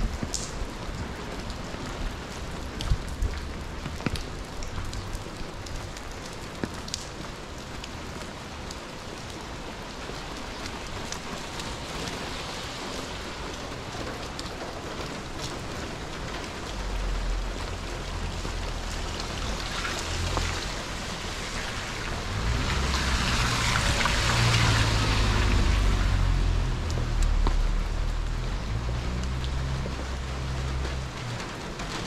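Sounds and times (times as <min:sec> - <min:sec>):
raindrops tapping nearby: 0:00.0 - 0:32.0
steady rain on wet pavement: 0:00.0 - 0:32.0.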